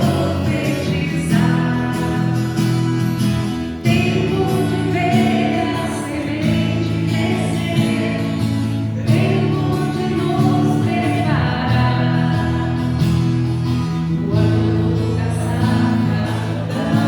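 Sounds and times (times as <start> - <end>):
group singing worship music: 0.0 - 17.0.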